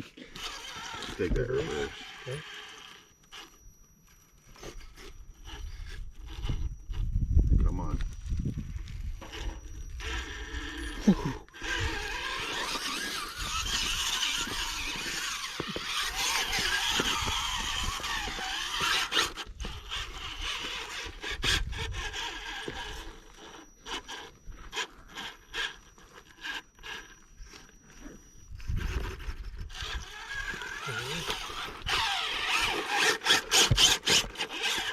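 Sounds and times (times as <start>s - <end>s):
tyres grinding over rock: 0.0s - 3.6s, 9.3s - 34.9s
toy car motor and gears: 0.0s - 34.9s.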